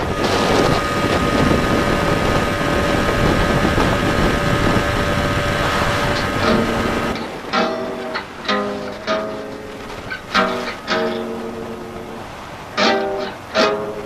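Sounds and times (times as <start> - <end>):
boat motor whining: 0.0 - 14.0
plucked string music: 0.0 - 14.0
wind on microphone: 0.0 - 14.0.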